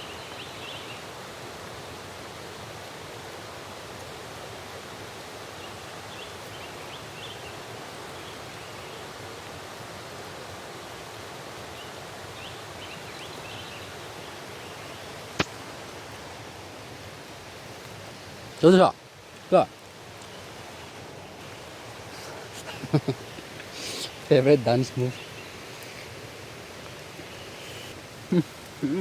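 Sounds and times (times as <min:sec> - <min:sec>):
jungle rushing hiss: 0:00.0 - 0:29.0.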